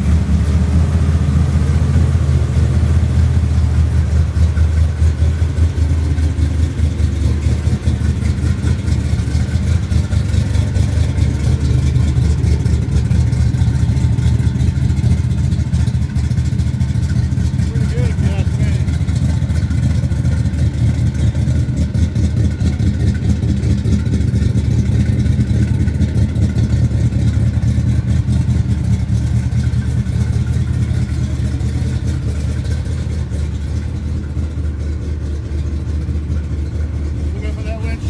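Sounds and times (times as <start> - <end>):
pickup engine idling: 0.0 - 38.0.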